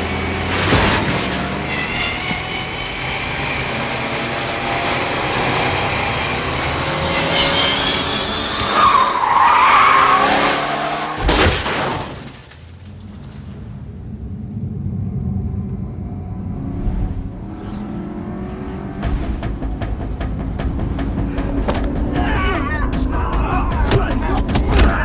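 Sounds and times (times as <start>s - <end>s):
car engines running hard: 0.0s - 25.0s.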